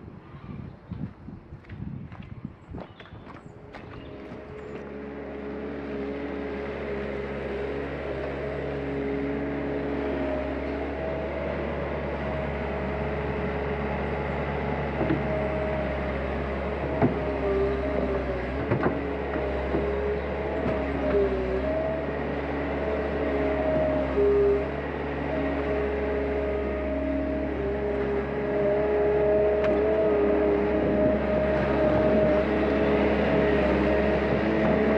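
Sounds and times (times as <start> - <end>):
loader engine running: 3.4 - 34.9.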